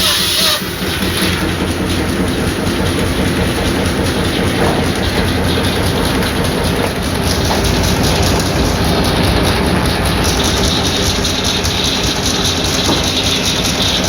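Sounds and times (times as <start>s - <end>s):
sawmill machinery clatter: 0.0s - 14.0s.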